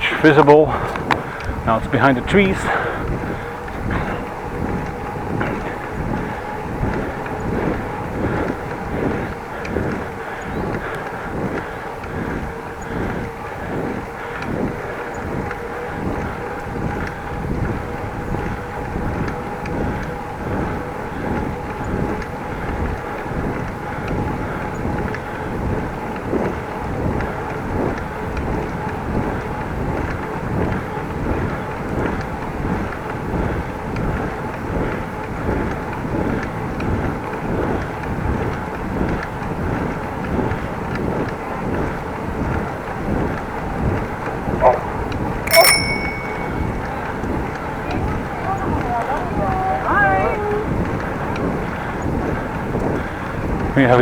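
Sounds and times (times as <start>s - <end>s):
bicycle tyre and road noise: 0.0s - 45.5s, 46.6s - 54.0s.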